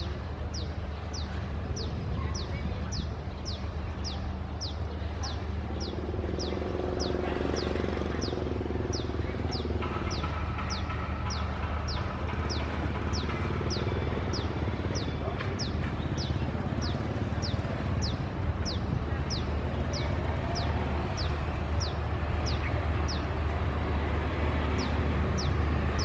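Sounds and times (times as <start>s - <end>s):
bird chirping: 0.0s - 23.3s
diesel locomotive engine hum: 0.0s - 26.0s.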